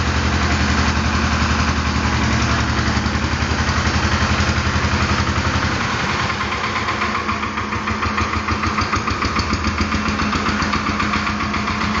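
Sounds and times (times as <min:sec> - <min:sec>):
small tractor engine pulsing: 0:00.0 - 0:12.0.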